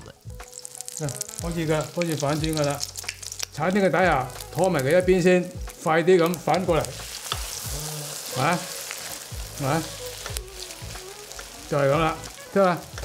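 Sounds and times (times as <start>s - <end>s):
omelette sizzling in oil: 0.4s - 5.0s, 6.2s - 13.0s.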